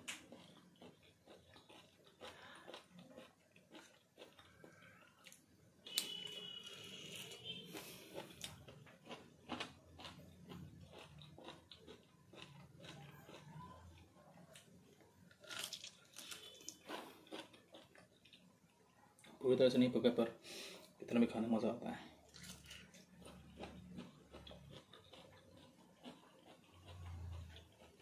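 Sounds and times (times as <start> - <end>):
person chewing: 0.0 - 19.4, 22.1 - 28.0.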